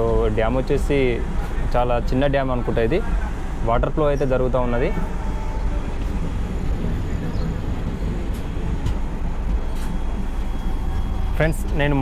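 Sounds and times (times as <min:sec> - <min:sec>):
train rumble from on board: 0:00.0 - 0:12.0.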